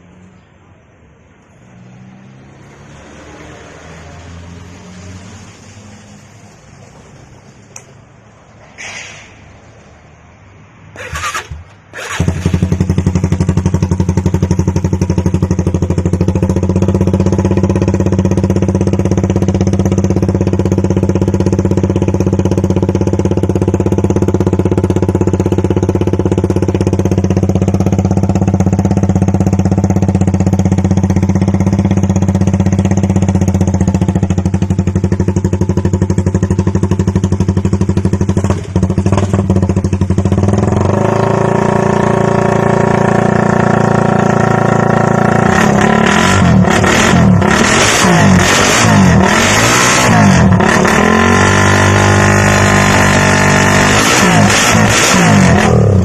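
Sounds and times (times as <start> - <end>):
motorcycle engine starting and running: 10.9 - 56.0.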